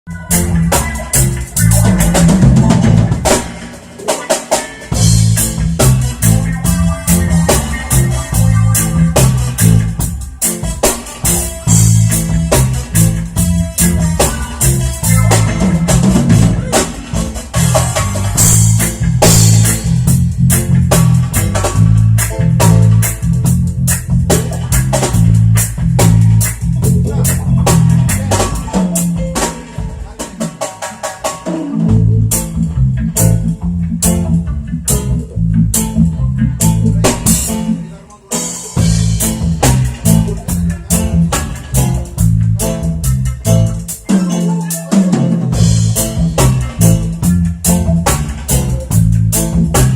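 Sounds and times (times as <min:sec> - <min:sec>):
bass line: 0:00.0 - 0:30.1, 0:31.5 - 0:38.1, 0:38.7 - 0:49.9
guitar: 0:00.0 - 0:49.9
drum kit hits: 0:00.1 - 0:49.9.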